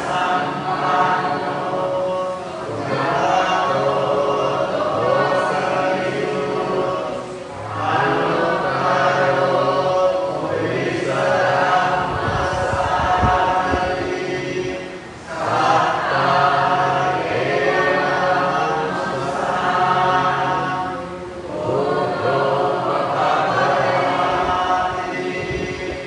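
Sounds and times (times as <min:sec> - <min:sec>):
voices chanting in unison: 0:00.0 - 0:26.0.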